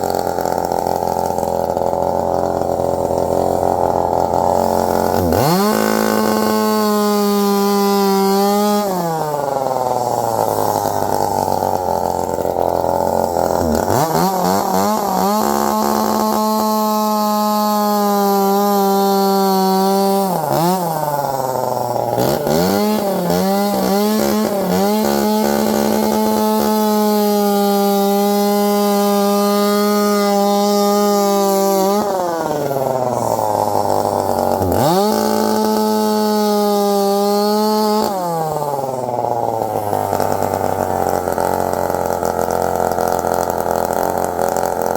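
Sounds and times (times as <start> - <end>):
chainsaw at full throttle: 0.0 - 44.9.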